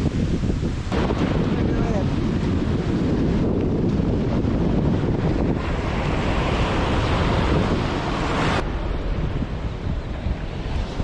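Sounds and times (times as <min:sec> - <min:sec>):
surf on rocky shore: 0:00.0 - 0:11.0
wind buffeting microphone: 0:00.0 - 0:11.0.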